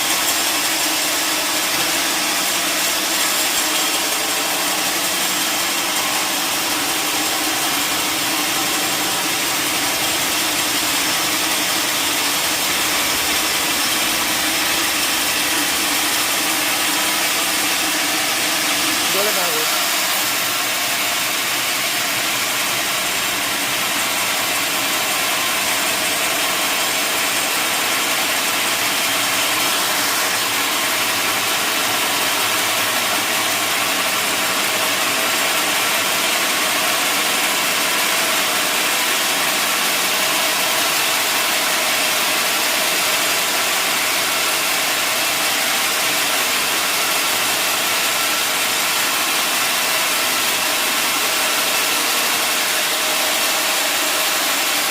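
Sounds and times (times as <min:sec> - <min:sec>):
sawmill saw machinery running: 0:00.0 - 0:54.9.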